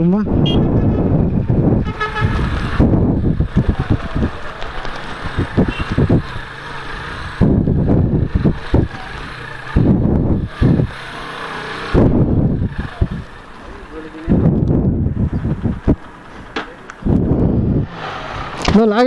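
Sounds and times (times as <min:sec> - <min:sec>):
road noise: 0:00.0 - 0:19.0
wind gusting over microphone: 0:00.0 - 0:19.0
motorcycle engine: 0:00.4 - 0:19.0.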